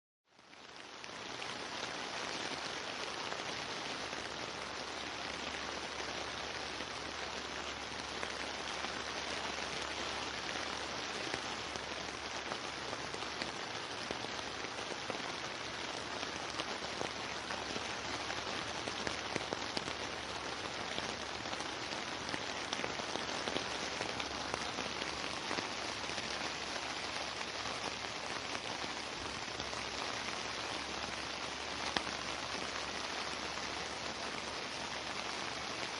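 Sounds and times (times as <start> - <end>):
steady rain falling: 0.3 - 35.9.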